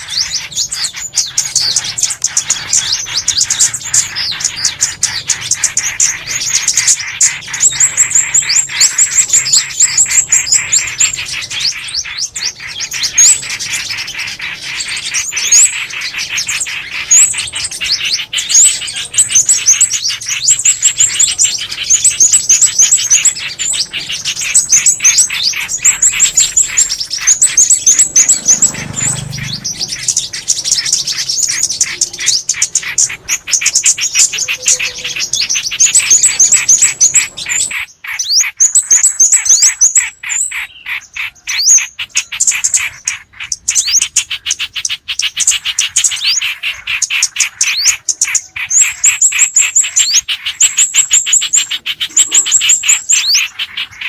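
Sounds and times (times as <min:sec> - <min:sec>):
songbird chirps: 0:00.0 - 0:54.0.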